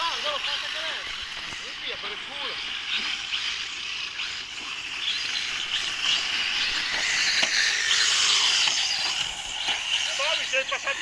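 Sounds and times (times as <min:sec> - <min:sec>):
rc cars buzzing on dirt: 0:00.0 - 0:11.0
rc cars hitting clicks: 0:00.0 - 0:11.0.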